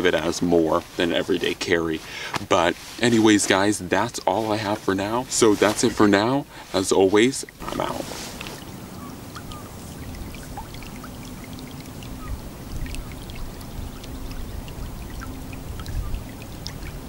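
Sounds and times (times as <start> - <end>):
stream trickling over grass: 0.0 - 17.0.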